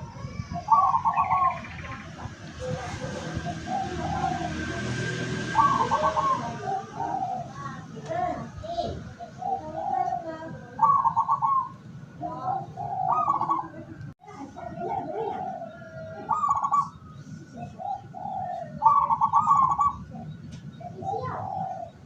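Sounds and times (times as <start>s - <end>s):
dove cooing with rolling trill: 0.0s - 14.0s, 14.6s - 22.0s
small birds chirping: 0.0s - 22.0s.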